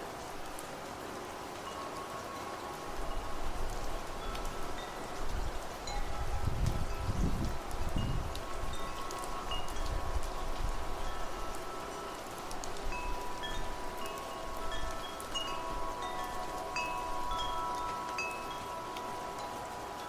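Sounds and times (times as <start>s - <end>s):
light rain: 0.0s - 20.0s
wind hiss: 0.0s - 20.0s
wind chimes ringing: 1.6s - 20.0s.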